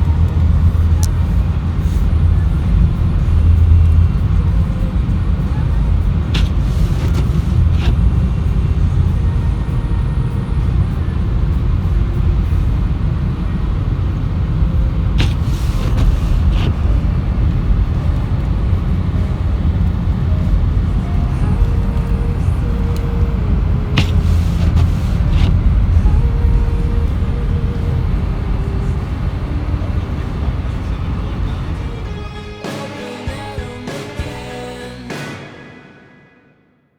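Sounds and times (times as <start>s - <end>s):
car driving on a road: 0.0s - 32.3s.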